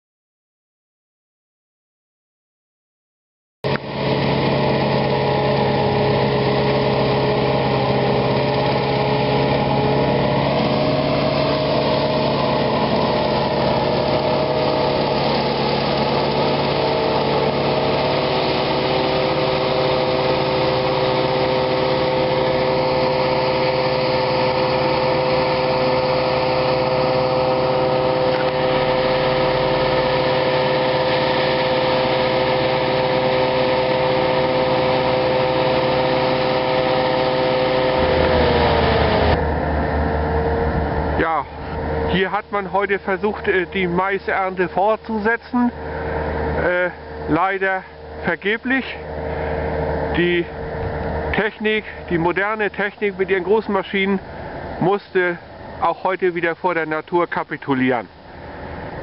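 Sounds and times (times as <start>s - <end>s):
harvester engine and cutterhead drone: 3.6s - 59.0s
whining tones: 3.6s - 59.0s.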